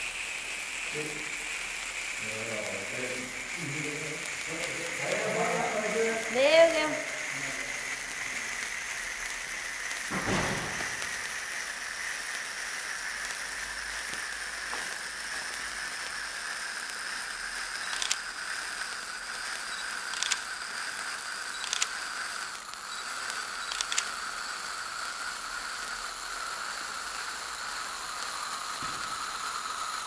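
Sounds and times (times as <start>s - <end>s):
firework fountain hissing: 0.0s - 30.0s
sharp crackles: 0.0s - 30.0s.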